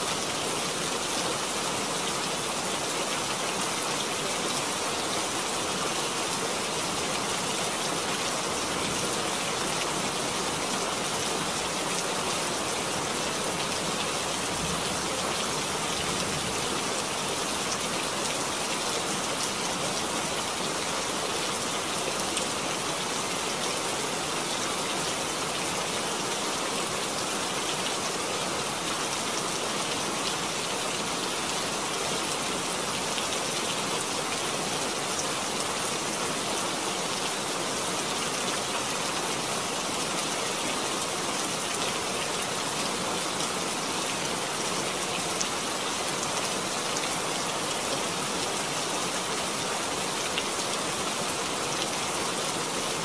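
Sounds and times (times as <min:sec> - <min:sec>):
rain falling and splashing: 0:00.0 - 0:53.0.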